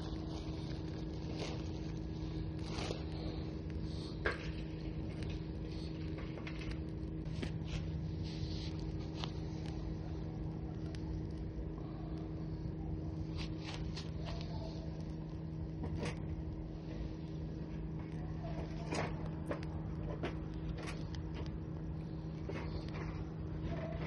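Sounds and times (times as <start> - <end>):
low hum and rumble: 0.0 - 24.0
wood fire crackling: 0.0 - 24.0.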